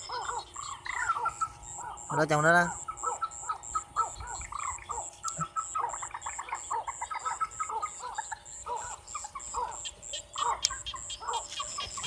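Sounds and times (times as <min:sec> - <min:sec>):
steady high-pitched pulse: 0:00.0 - 0:12.0.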